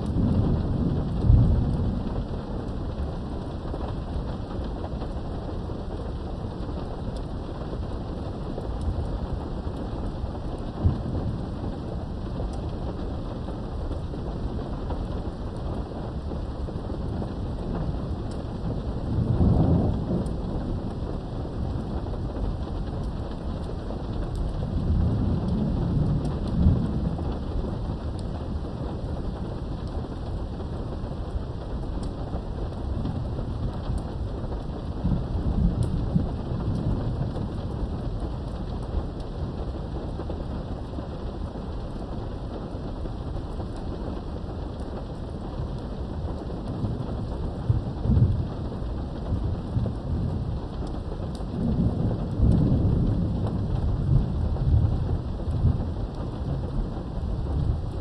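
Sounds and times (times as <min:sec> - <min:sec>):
steady rain falling: 0:00.0 - 0:58.0
thunder rumbling: 0:00.0 - 0:58.0.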